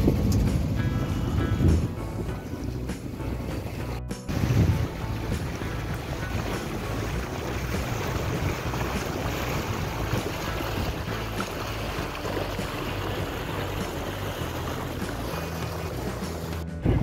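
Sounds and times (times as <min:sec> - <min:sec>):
steady low rumble: 0:00.0 - 0:17.0
water washing past boat hull: 0:00.0 - 0:17.0
wind on microphone: 0:00.0 - 0:17.0.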